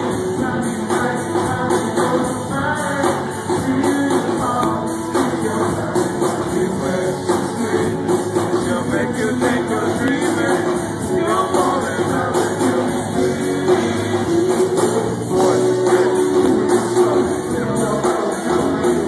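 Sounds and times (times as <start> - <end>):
drums playing: 0.0 - 19.0
loud dance music: 0.0 - 19.0
person singing: 0.0 - 19.0.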